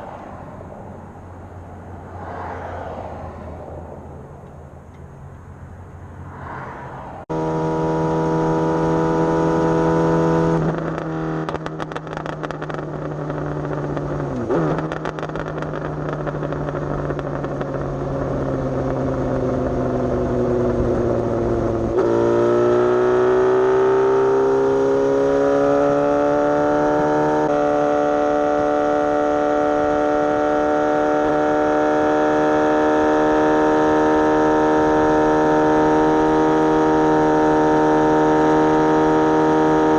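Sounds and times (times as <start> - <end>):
motorcycle engine whine: 0.0 - 39.9.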